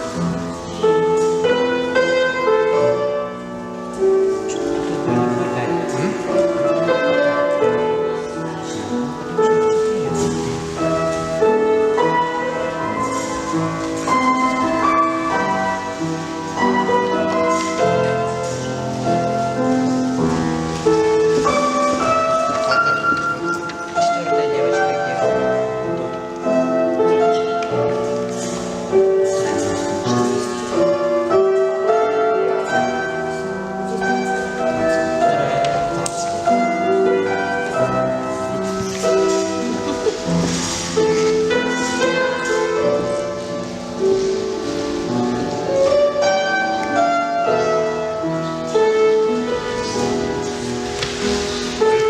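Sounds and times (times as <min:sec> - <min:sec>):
piano chords: 0:00.0 - 0:52.0.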